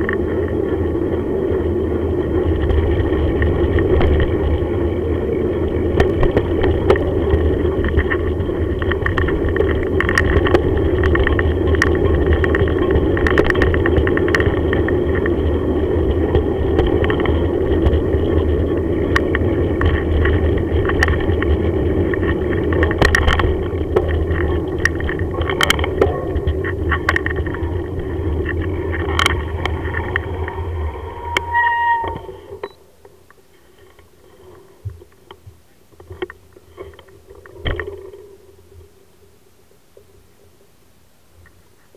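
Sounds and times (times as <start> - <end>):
bike rattling over bumps: 0.0 - 32.7, 33.6 - 38.8
bicycle tyre road noise: 0.0 - 39.3.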